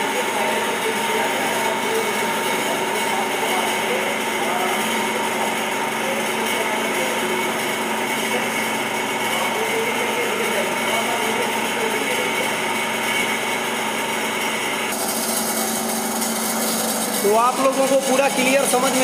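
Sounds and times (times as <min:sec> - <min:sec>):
lathe machine whine: 0:00.0 - 0:19.0.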